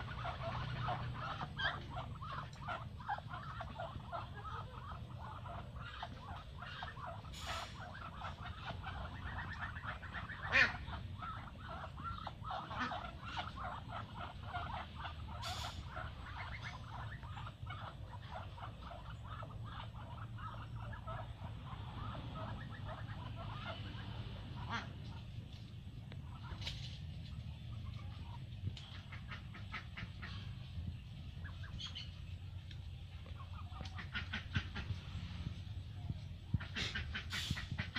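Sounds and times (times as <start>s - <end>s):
ducks calling: 0.0s - 37.9s.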